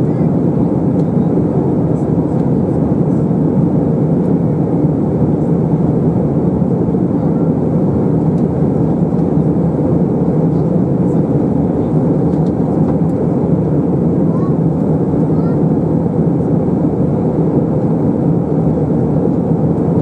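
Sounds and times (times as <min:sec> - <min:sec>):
jet engines droning: 0:00.0 - 0:20.0.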